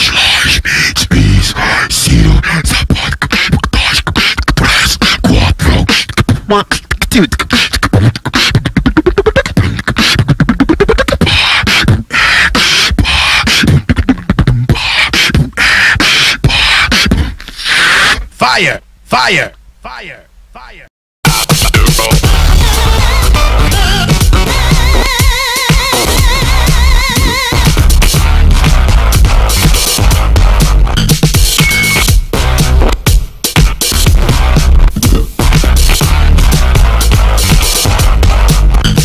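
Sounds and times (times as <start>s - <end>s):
hip-hop dance music: 2.1s - 17.3s, 21.2s - 39.0s.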